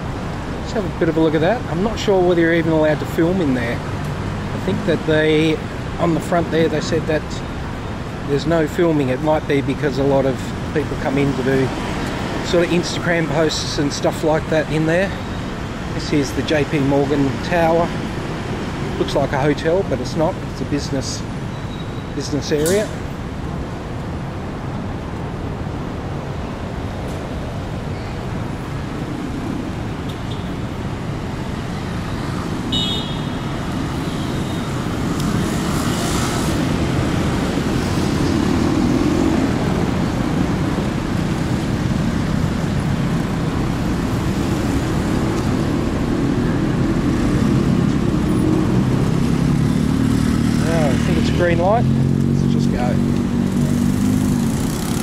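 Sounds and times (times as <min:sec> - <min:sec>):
street traffic rumble: 0:00.0 - 0:55.0.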